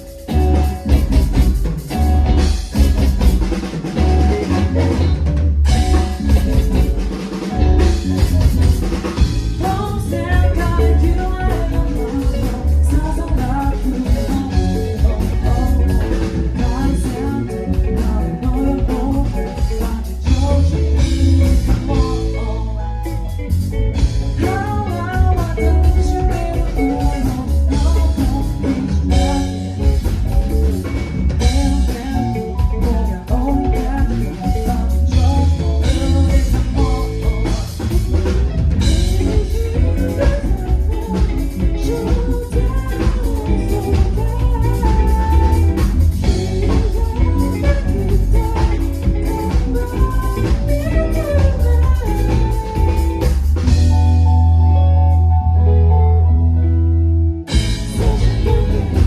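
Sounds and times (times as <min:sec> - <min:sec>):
drum kit beat: 0:00.0 - 0:54.5, 0:57.5 - 0:59.0
heavy bass: 0:00.0 - 0:59.0
melodic lines: 0:00.0 - 0:59.0
person singing: 0:03.9 - 0:54.8, 0:57.5 - 0:59.0.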